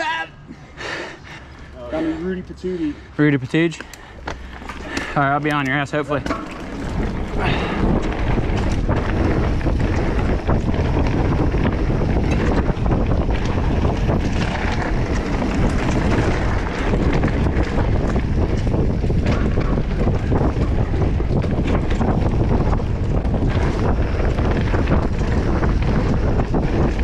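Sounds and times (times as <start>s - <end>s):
tyres rumbling on dirt trail: 0.5s - 27.0s
bike clicks and rattles: 3.5s - 27.0s
wind buffeting microphone: 4.0s - 27.0s.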